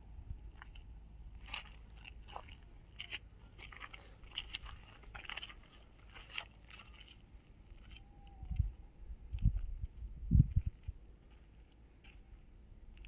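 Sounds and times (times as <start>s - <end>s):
low steady rumble: 0.0s - 13.0s
footsteps crunching on gravel: 0.5s - 8.8s, 9.4s - 13.0s.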